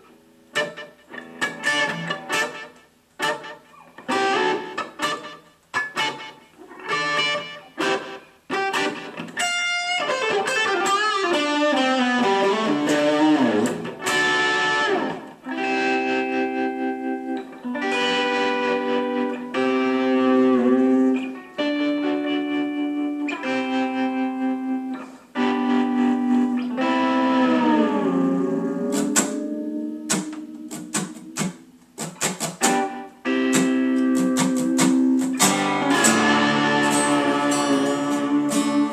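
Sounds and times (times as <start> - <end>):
instrumental guitar music: 0.0 - 38.9.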